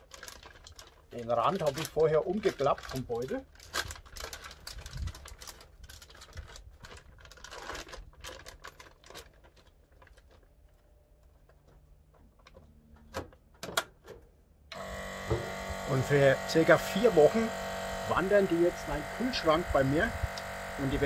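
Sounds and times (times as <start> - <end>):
plastic bag crinkling: 0.0 - 12.6, 15.0 - 21.0.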